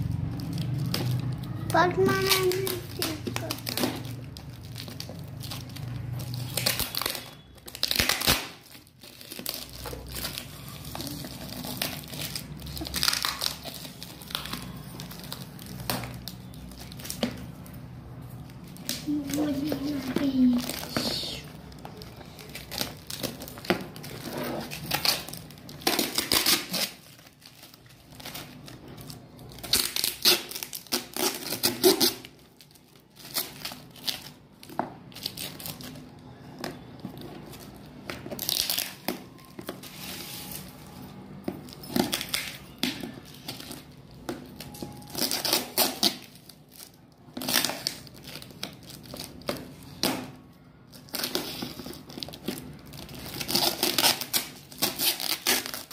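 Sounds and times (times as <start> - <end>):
packing tape tearing: 0.0 - 17.7, 18.4 - 55.9
plastic wrapping crinkling: 0.0 - 55.9.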